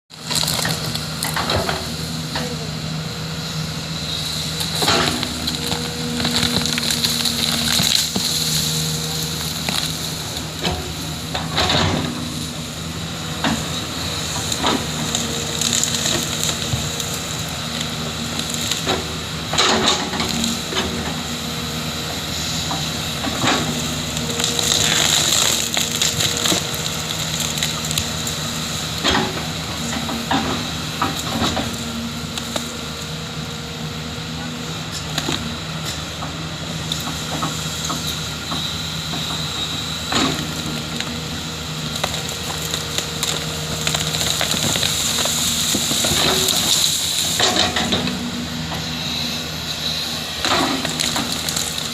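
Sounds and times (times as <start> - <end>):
diesel engine running under load: 0.1 - 51.9.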